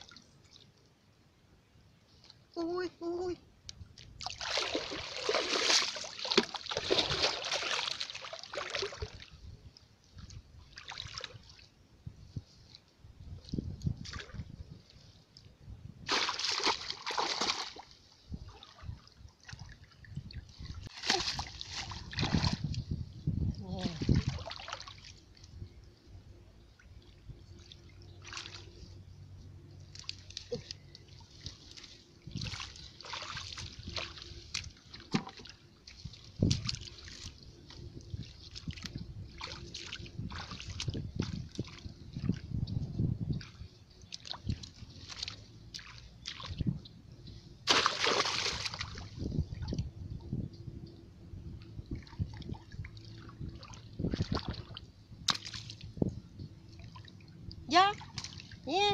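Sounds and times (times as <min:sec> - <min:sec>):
muddy water splashing: 0:04.0 - 0:09.5, 0:10.1 - 0:11.8, 0:12.6 - 0:15.4, 0:16.0 - 0:25.6, 0:26.7 - 0:29.1, 0:29.7 - 0:46.8, 0:47.6 - 0:49.9, 0:51.8 - 0:58.9.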